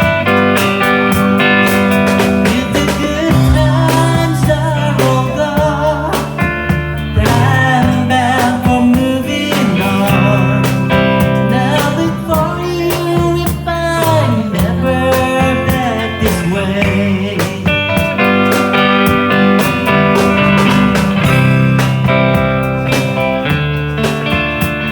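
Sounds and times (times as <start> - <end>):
band playing country song: 0.0 - 24.9.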